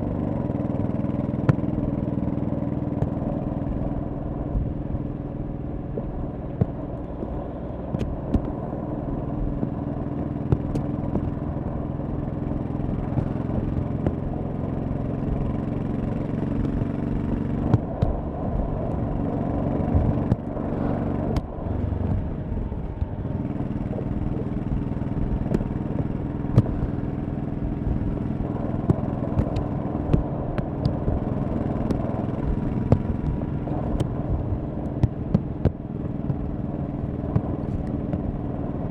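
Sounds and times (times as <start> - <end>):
motorcycle engine throbbing: 0.0 - 38.9.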